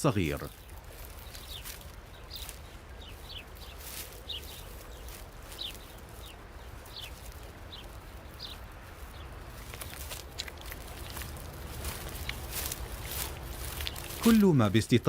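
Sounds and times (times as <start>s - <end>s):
osprey chirping: 0.0s - 14.7s
steady low rumble: 0.0s - 15.0s.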